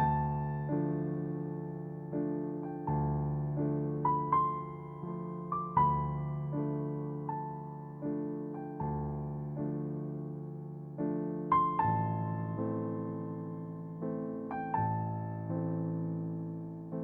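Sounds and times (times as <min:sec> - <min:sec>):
gentle piano notes and chords: 0:00.0 - 0:17.0.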